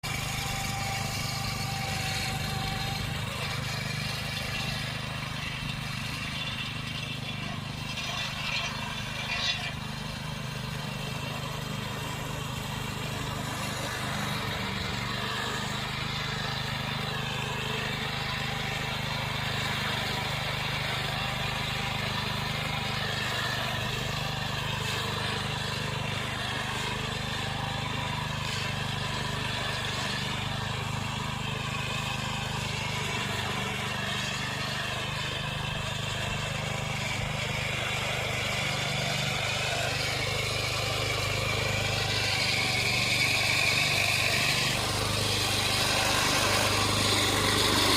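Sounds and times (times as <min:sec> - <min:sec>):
small tractor engine running: 0:00.0 - 0:47.9.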